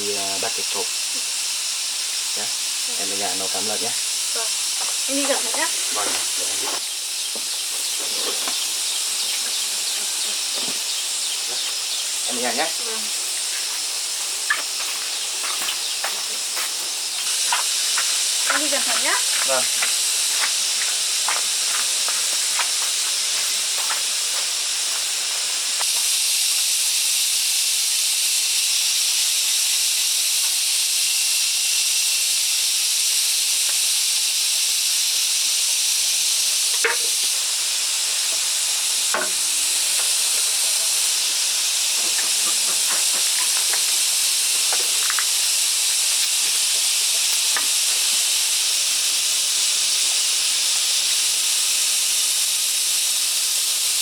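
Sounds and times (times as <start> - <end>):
steady loud hiss: 0.0 - 54.0.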